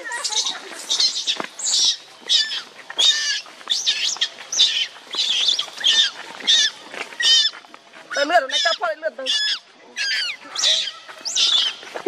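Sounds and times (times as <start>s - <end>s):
baby monkey screaming: 0.0s - 11.8s.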